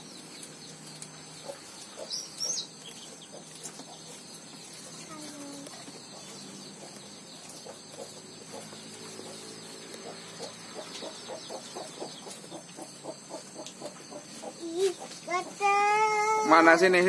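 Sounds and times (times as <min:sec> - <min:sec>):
chickens clucking: 0:00.0 - 0:17.0
small birds chirping: 0:00.0 - 0:17.0.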